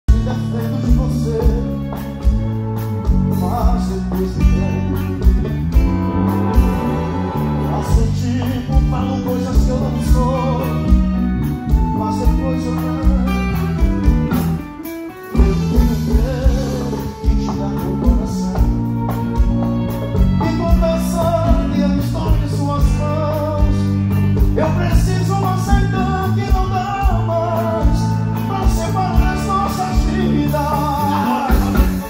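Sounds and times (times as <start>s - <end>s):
live band playing: 0.1s - 32.0s
man singing: 0.1s - 32.0s.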